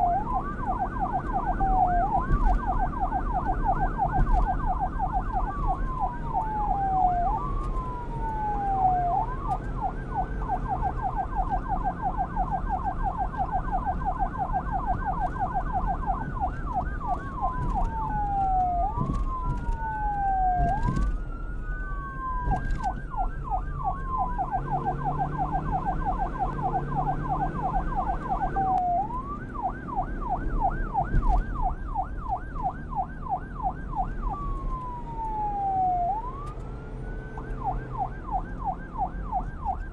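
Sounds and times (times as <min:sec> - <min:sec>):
police siren yelping and wailing: 0:00.0 - 0:39.9.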